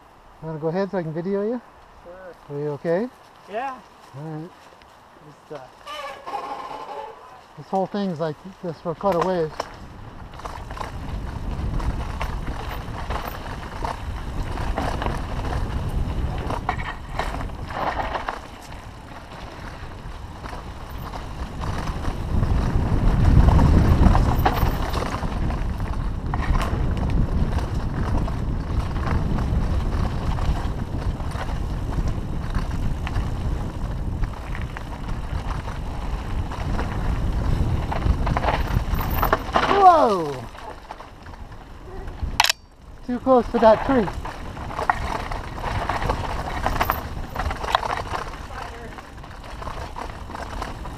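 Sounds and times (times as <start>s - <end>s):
bike rolling on bumpy trail: 0.0s - 50.9s
wind buffeting microphone: 5.8s - 50.9s.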